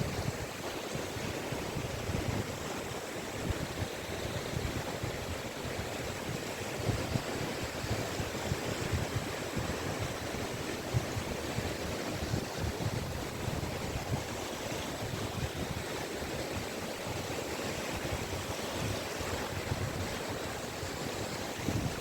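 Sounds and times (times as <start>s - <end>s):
wind buffeting microphone: 0.0s - 17.3s, 17.9s - 22.0s
surf hissing on beach: 0.0s - 22.0s.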